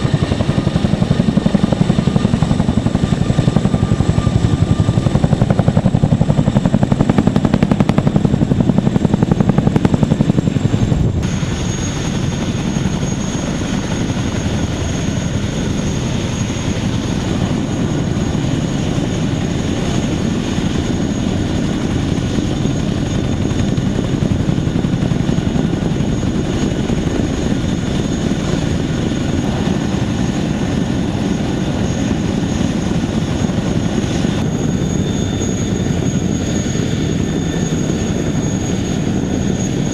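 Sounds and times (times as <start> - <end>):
helicopter rotor chop: 0.0 - 39.9
high turbine whine: 0.0 - 39.9.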